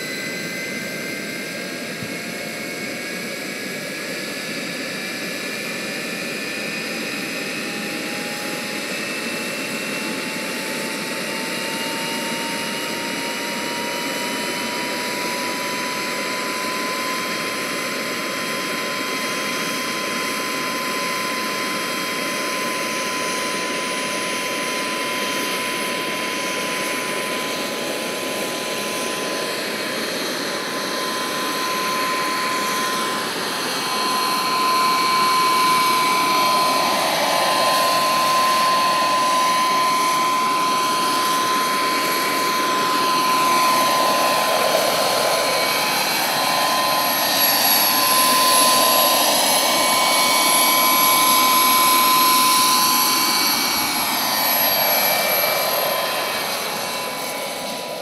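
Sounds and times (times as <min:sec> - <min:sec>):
helicopter rotor noise: 0:00.0 - 0:58.0
turbine engine whine: 0:00.0 - 0:58.0.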